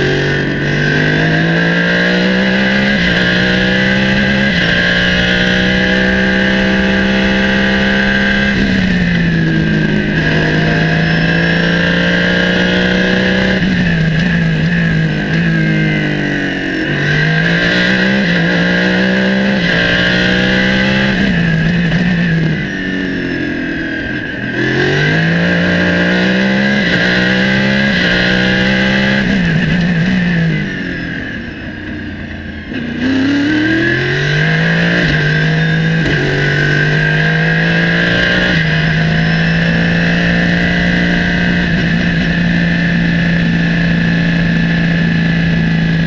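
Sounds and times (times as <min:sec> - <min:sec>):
race car engine at full throttle: 0:00.0 - 0:46.0.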